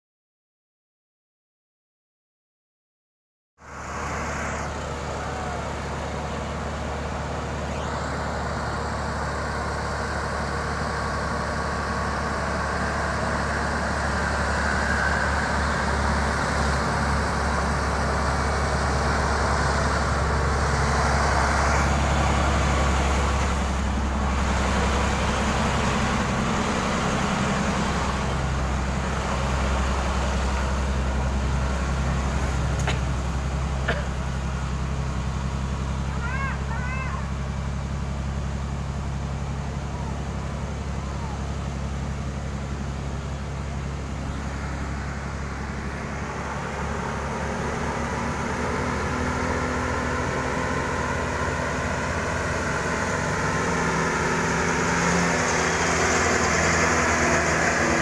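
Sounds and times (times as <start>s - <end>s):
diesel engine drone: 3.6s - 58.0s
dump truck passing: 3.6s - 58.0s.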